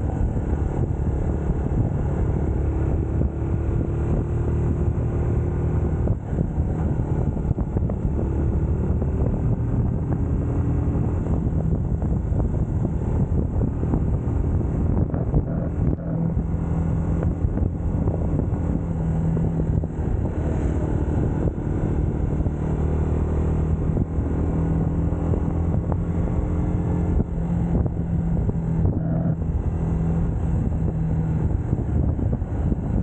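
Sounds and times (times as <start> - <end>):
motorcycle engine cruising: 0.0 - 33.0
road noise: 0.0 - 33.0
wind: 0.0 - 33.0.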